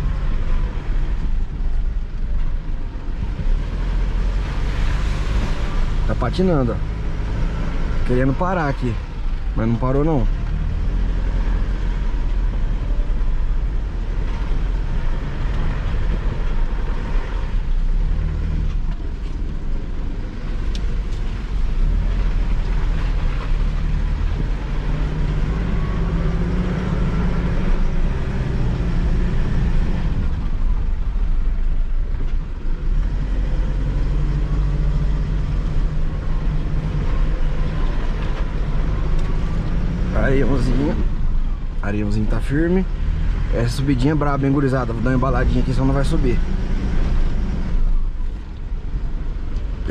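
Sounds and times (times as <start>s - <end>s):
pickup engine revving uphill: 3.1s - 19.0s, 20.2s - 49.9s.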